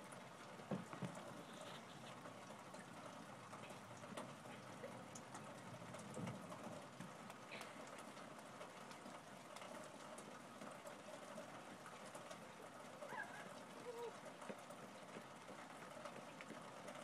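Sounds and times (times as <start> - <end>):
light rain on pavement: 0.0 - 17.0
water drips: 0.0 - 17.0.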